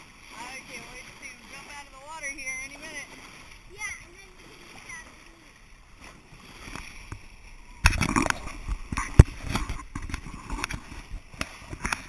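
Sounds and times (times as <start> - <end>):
water splashing against hull: 0.0 - 12.0.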